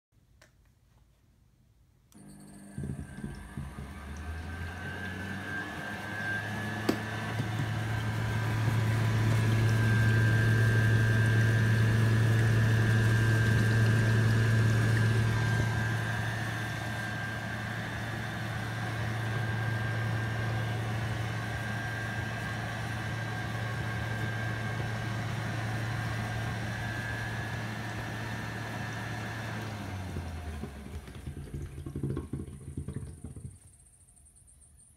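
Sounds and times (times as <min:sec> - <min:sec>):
vacuum cleaner motor humming and whining: 0:02.2 - 0:33.5.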